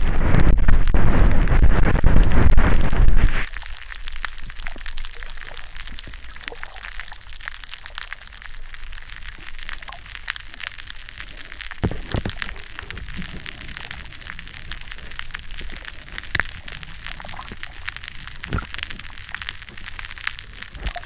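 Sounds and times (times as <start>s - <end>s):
underwater clicking crackle: 0.0s - 21.0s.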